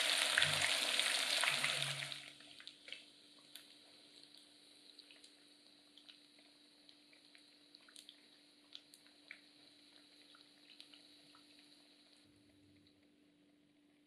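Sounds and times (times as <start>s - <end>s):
tofu deep-frying in oil: 0.0s - 12.3s.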